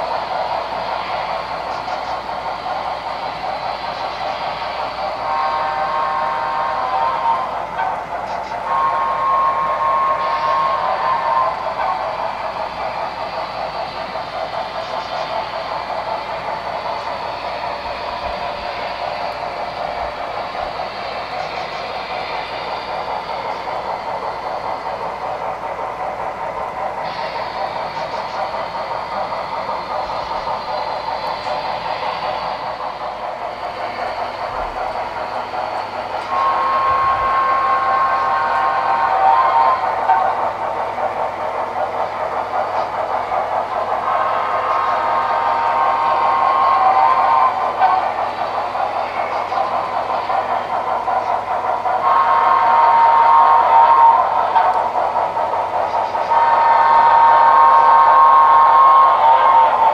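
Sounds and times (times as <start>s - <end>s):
model train steam chuff: 0.0s - 59.9s
train whistle: 0.0s - 59.9s.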